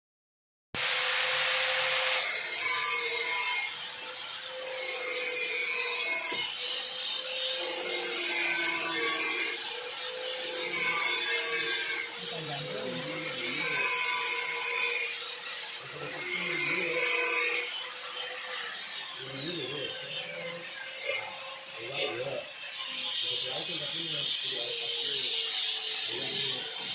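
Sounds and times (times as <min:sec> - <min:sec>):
power tool motor whining: 0:00.8 - 0:26.9.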